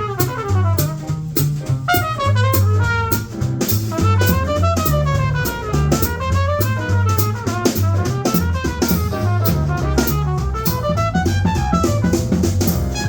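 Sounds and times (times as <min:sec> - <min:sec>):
bass line: 0:00.0 - 0:13.0
drum kit swing: 0:00.0 - 0:13.0
small group jazz: 0:00.0 - 0:13.0.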